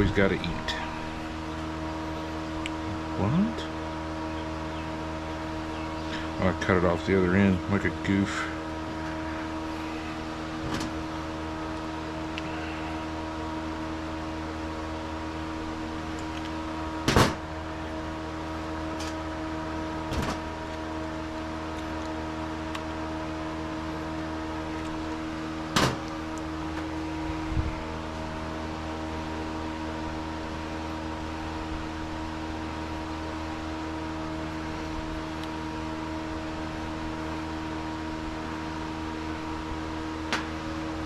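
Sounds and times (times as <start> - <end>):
steady mechanical hum: 0.0 - 41.0.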